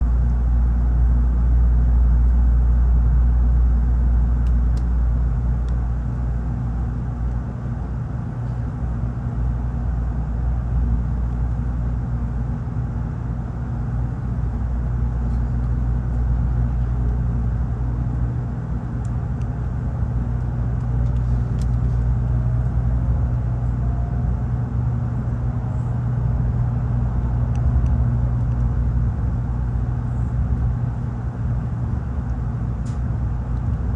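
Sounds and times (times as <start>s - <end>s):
train interior rumble: 0.0s - 33.9s.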